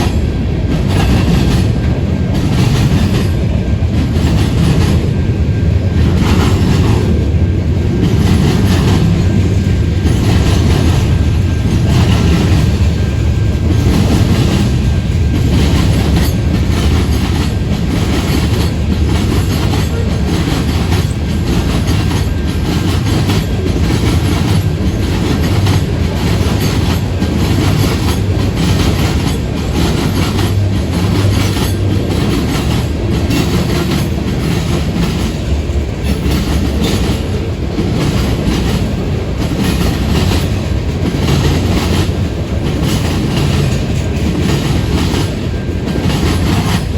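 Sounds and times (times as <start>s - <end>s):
wheels clicking over rail joints: 0.0s - 5.4s, 6.0s - 46.9s
freight train rumbling past: 0.0s - 46.9s.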